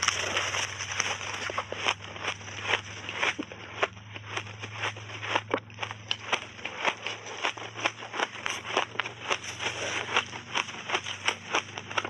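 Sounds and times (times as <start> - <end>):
chewing crunchy shaved ice: 0.0 - 12.0
faint low hum: 0.0 - 12.0.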